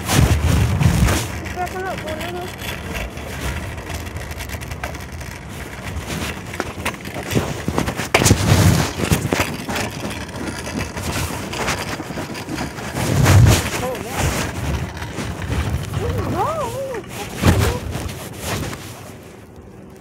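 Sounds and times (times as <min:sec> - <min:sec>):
fabric rubbing on microphone: 0:00.0 - 0:06.6, 0:07.3 - 0:19.5.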